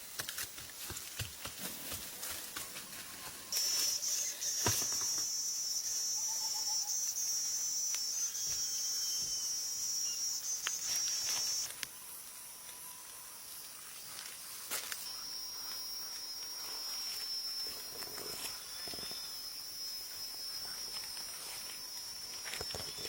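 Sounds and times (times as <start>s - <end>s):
high-pitched insect drone: 3.0s - 23.0s.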